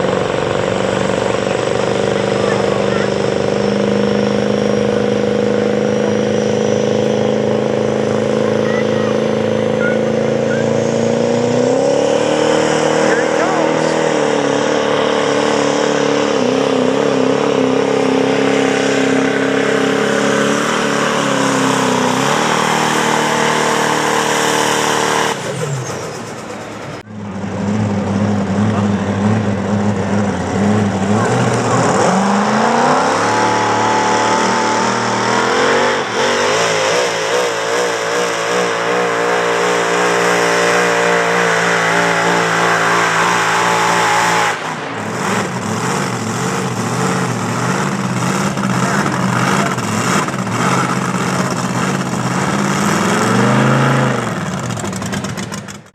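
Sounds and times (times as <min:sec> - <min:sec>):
truck engines revving hard: 0:00.0 - 0:55.9.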